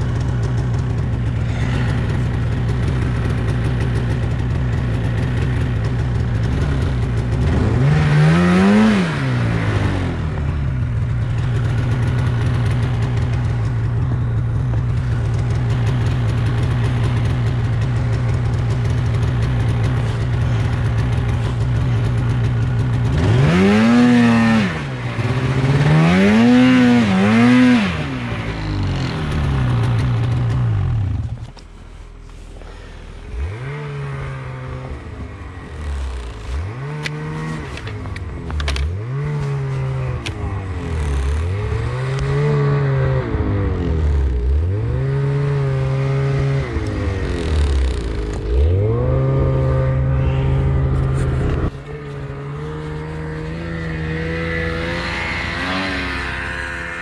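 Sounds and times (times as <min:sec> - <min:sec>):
snowmobile engine idling and revving: 0:00.0 - 0:57.0.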